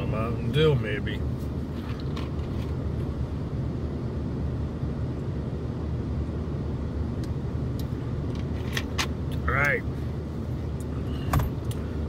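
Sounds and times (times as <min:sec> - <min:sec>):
car idling rumble: 0:00.0 - 0:12.0.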